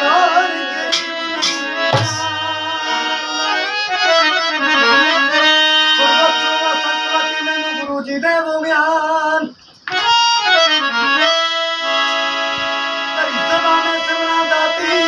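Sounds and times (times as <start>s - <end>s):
harmonium playing chords: 0.0s - 15.0s.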